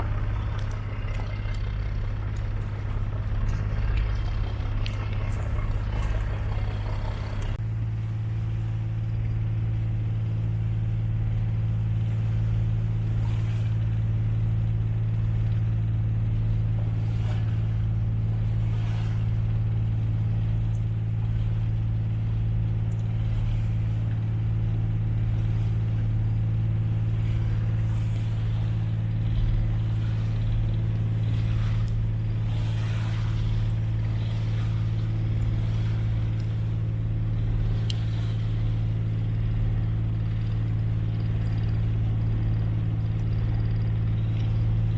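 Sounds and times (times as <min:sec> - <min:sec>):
boat engine droning: 0:00.0 - 0:44.9.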